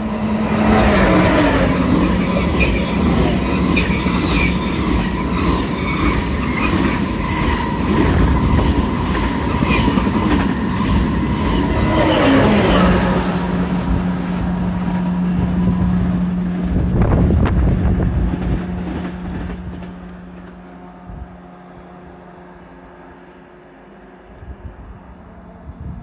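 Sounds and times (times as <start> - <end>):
train wheels rattling: 0.0 - 21.0.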